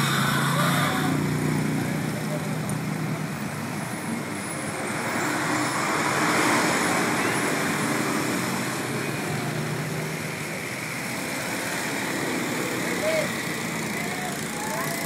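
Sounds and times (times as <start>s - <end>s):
highway traffic: 0.0s - 15.0s.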